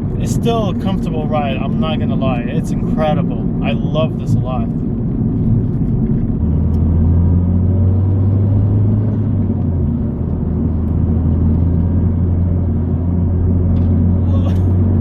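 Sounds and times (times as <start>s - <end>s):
car engine driving: 0.0s - 15.0s.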